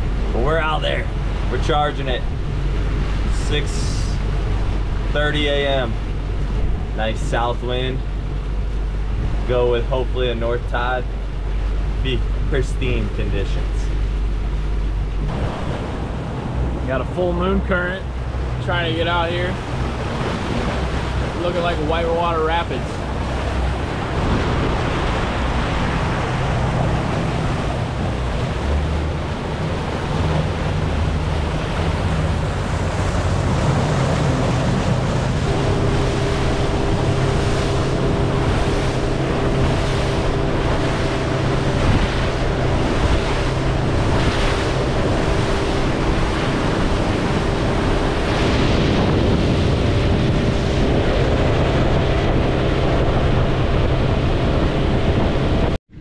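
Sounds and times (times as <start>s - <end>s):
outboard engine running: 0.0s - 56.0s
water rushing past hull: 0.0s - 56.0s
wind buffeting microphone: 0.0s - 56.0s.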